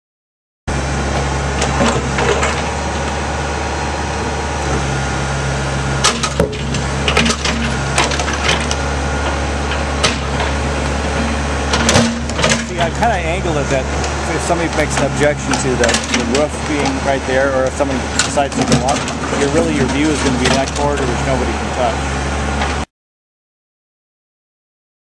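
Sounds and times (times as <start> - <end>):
diesel engine running: 0.7 - 22.9.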